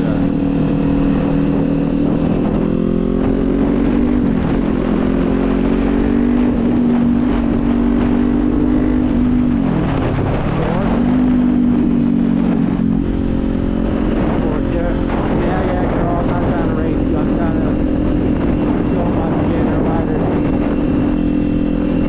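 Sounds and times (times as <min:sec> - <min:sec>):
motorcycle engine cruising: 0:00.0 - 0:22.0
wind noise: 0:00.0 - 0:22.0.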